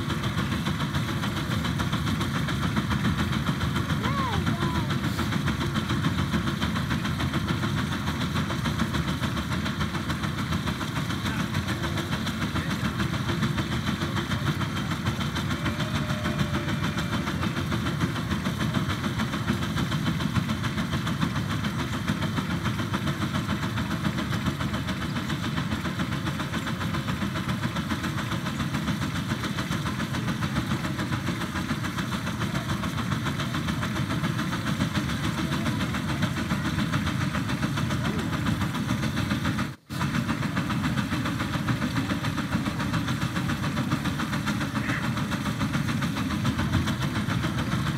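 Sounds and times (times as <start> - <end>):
steam engine exhaust beat: 0.0 - 47.9.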